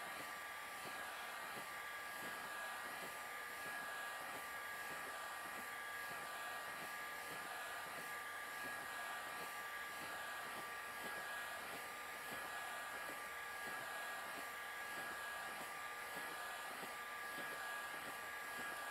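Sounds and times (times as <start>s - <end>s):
heat gun blowing air: 0.0s - 18.9s.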